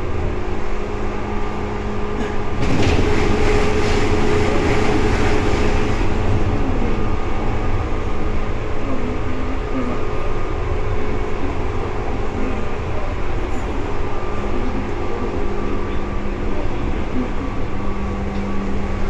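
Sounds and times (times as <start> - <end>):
electric train running hum: 0.0 - 19.0.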